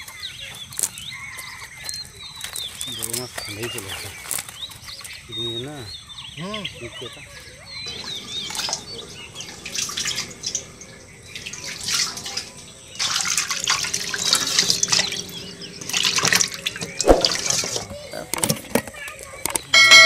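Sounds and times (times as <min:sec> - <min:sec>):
cast net rustling and crackling: 0:00.0 - 0:05.8, 0:07.9 - 0:19.7.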